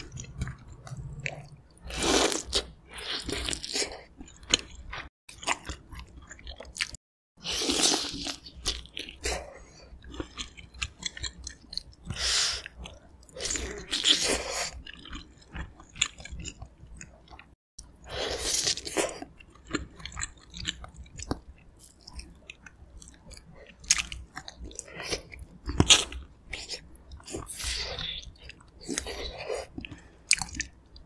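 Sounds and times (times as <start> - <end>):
chewing with wet mouth sounds: 0.0 - 7.0, 7.7 - 31.0.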